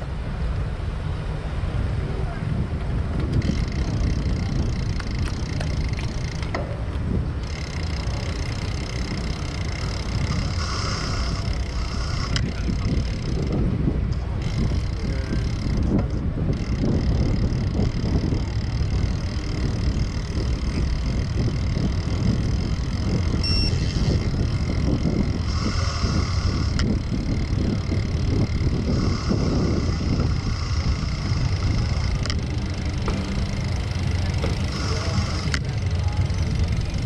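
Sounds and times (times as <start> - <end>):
road and tyre noise: 0.0 - 37.0
wind buffeting microphone: 0.0 - 37.0.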